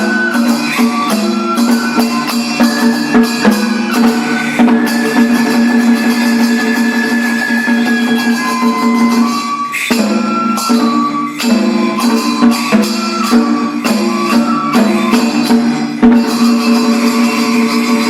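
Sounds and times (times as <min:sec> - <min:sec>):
drum strikes: 0:00.0 - 0:18.0
jingling bells: 0:00.0 - 0:18.0
wavering flute melody: 0:00.0 - 0:18.0.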